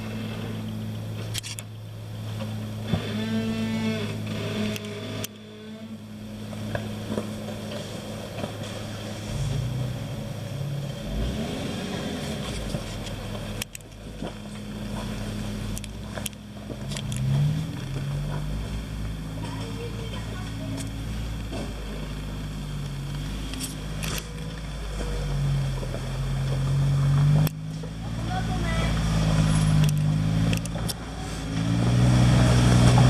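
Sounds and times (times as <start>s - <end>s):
off-road vehicle engine revving: 0.0s - 33.0s.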